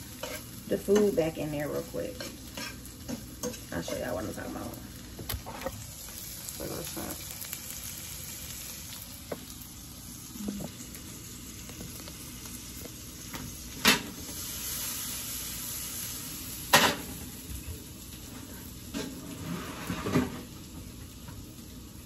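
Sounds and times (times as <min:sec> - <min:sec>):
shrimp sizzling in a frying pan: 0:00.0 - 0:22.0.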